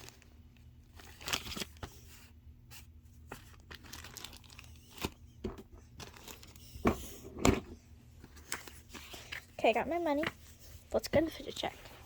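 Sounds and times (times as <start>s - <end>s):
play money rustling and crinkling: 0.0s - 12.0s.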